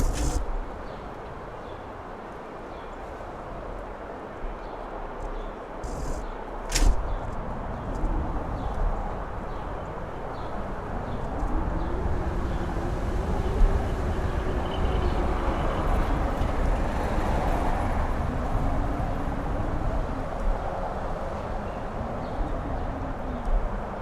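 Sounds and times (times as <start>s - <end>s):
strong gusty wind howling: 0.0s - 24.0s
wind buffeting microphone: 0.0s - 24.0s.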